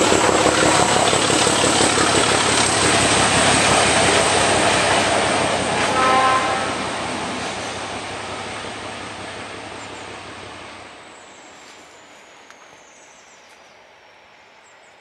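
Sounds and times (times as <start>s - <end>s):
locomotive engine rumble: 0.0s - 12.8s
train rolling noise: 0.0s - 15.0s.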